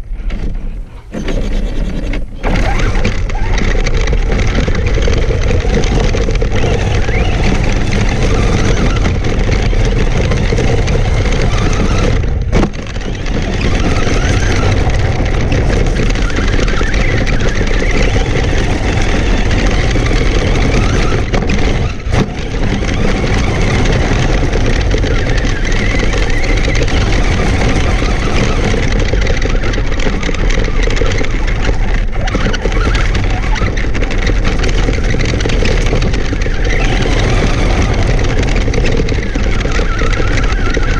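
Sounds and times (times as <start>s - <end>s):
toy truck motor running: 0.6s - 40.9s
tyres crunching through gravel: 0.6s - 40.9s.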